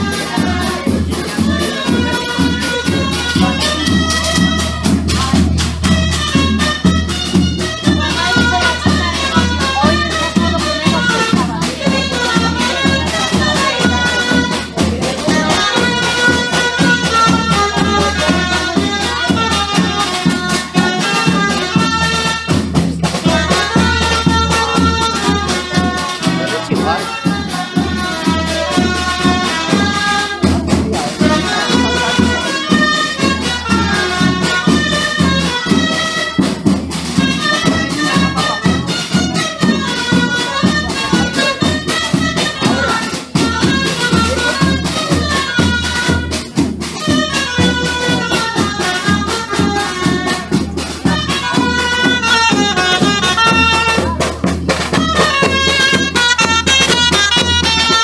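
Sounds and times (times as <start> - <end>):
busy percussion: 0.0 - 58.0
quick folk melody: 0.0 - 58.0.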